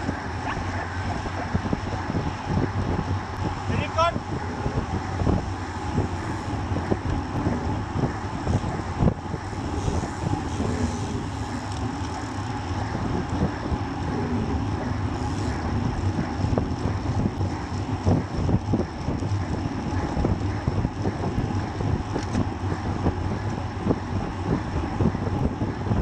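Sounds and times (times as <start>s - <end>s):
road and tyre rumble: 0.0s - 26.0s
wind rushing over microphone: 0.0s - 26.0s.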